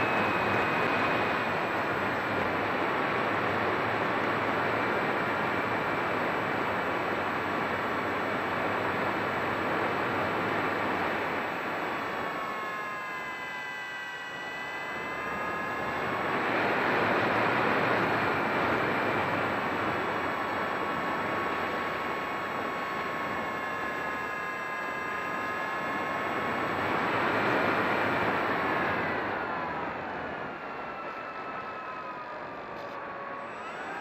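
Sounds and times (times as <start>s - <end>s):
model airplane motor whine: 0.0s - 34.0s.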